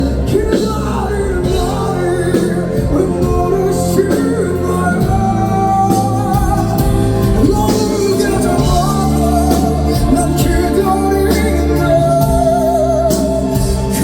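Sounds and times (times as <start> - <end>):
band accompaniment: 0.0 - 14.0
man singing with raspy voice: 0.0 - 14.0.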